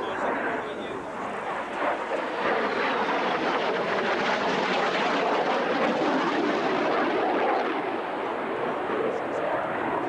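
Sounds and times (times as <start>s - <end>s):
jet engine roar: 0.0s - 10.0s.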